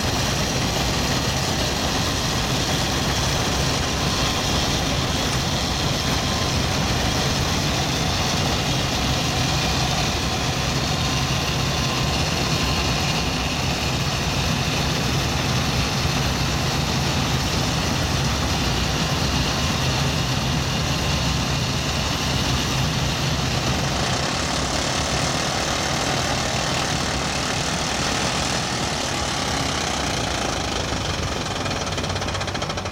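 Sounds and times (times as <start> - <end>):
combine harvester engine drone: 0.0 - 32.9.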